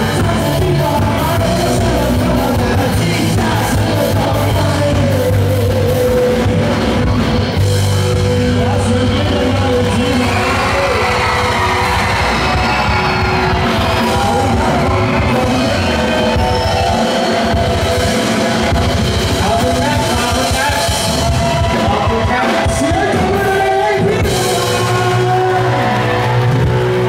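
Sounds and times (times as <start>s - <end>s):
man singing: 0.0s - 17.1s, 18.6s - 26.5s
live rock band playing: 0.0s - 27.0s.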